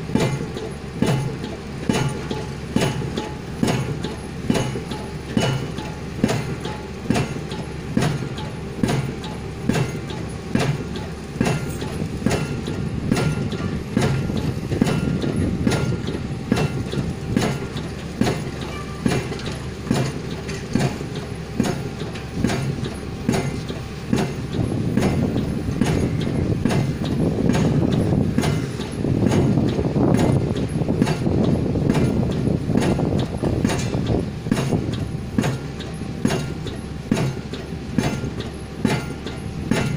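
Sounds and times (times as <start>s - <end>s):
rig engine rumble: 0.0s - 39.9s
pile driver hammer blows: 0.1s - 39.9s.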